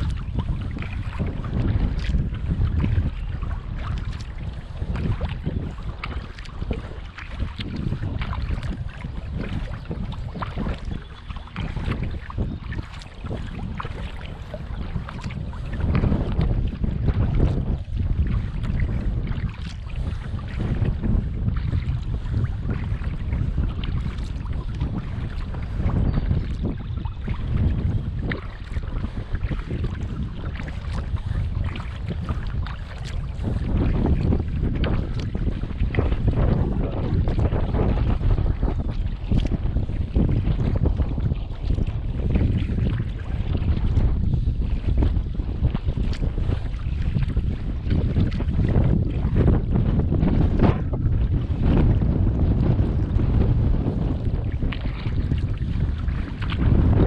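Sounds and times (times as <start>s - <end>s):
paddle splashing water: 0.0s - 57.0s
wind rumble on microphone: 0.0s - 57.0s.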